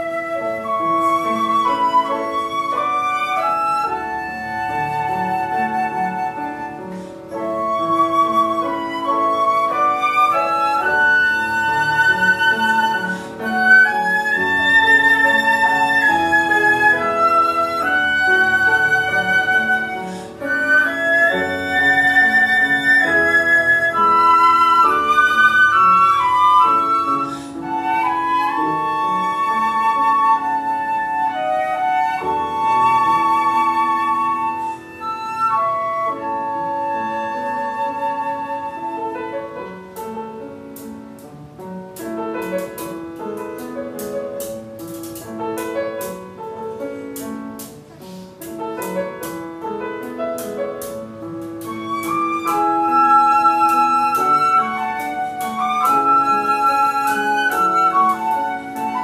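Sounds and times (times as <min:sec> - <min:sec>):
flutes playing in harmony: 0:00.0 - 0:40.5, 0:48.8 - 0:59.0
piano accompaniment: 0:00.0 - 0:59.0.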